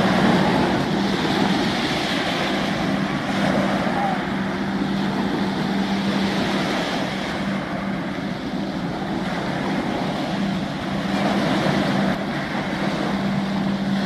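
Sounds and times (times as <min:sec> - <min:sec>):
choppy water: 0:00.0 - 0:14.0
low engine drone: 0:00.0 - 0:14.0
wind on microphone: 0:00.0 - 0:14.0.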